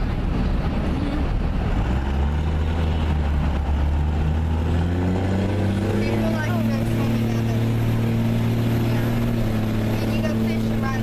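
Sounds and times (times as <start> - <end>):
car engine hum: 0.0 - 11.0
road noise inside moving car: 0.0 - 11.0.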